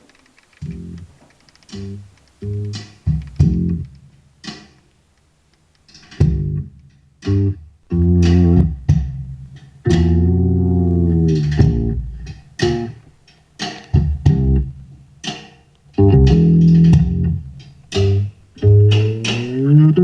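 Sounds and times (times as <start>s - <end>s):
music with plucked bass and guitar: 0.6s - 4.8s, 5.9s - 20.0s.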